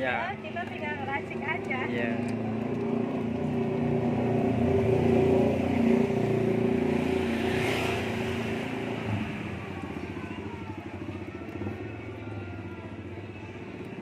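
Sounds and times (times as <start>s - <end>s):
vehicle engine running: 0.0s - 7.4s, 8.2s - 14.0s.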